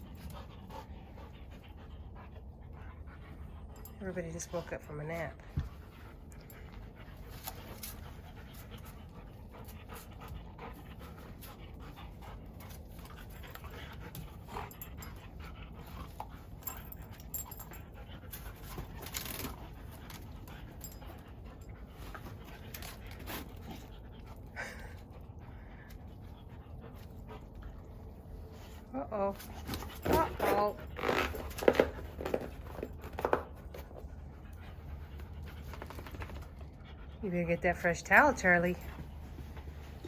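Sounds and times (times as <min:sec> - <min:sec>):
dog panting: 0:00.0 - 0:40.0.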